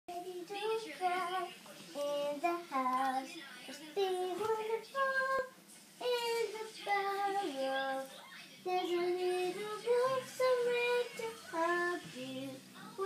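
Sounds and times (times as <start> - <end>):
girl singing unaccompanied: 0.1 - 13.0.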